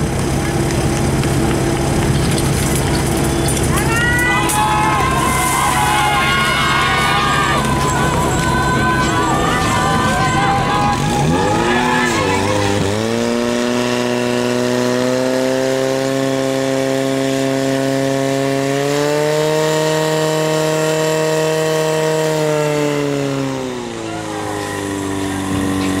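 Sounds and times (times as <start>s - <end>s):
pump engine running at high revs: 0.0s - 26.0s.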